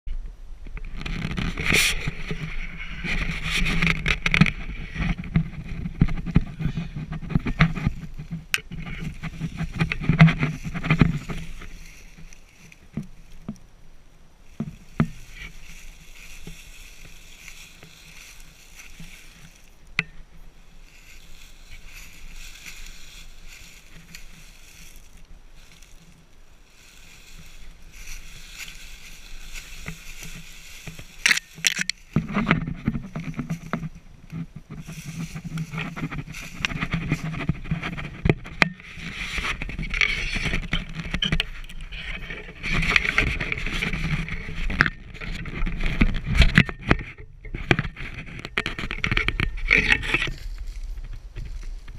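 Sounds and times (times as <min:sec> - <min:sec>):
carcass dragged over forest floor: 0:01.0 - 0:13.6, 0:14.4 - 0:51.9.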